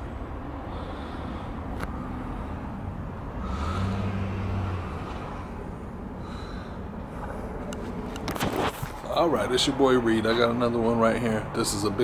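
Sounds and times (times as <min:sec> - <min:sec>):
low traffic rumble: 0:00.0 - 0:12.0
vehicle engine passing: 0:00.0 - 0:12.0.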